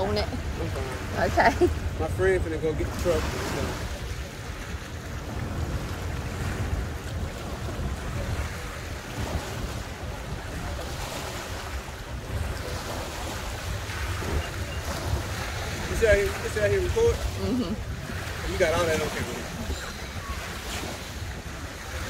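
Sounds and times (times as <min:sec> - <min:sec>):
boat motors running: 0:00.0 - 0:03.2, 0:03.8 - 0:22.0
water lapping against dock: 0:00.0 - 0:22.0
wind rumbling on microphone: 0:00.0 - 0:22.0.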